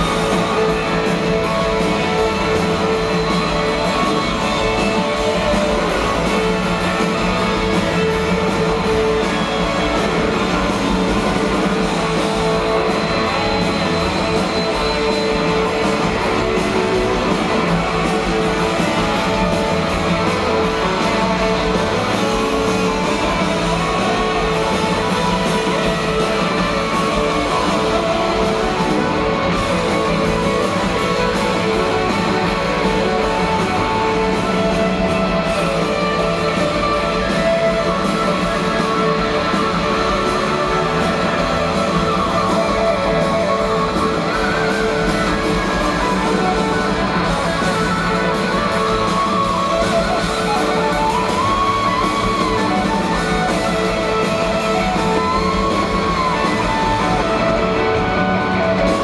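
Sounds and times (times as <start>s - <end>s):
live rock band with electric guitars: 0.0s - 59.0s.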